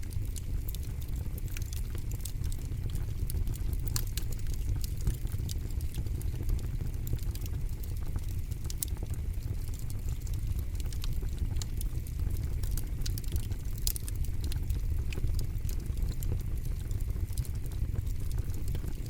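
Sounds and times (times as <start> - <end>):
burning wood crackles and pops: 0.0 - 19.0
low roar of flames: 0.0 - 19.0.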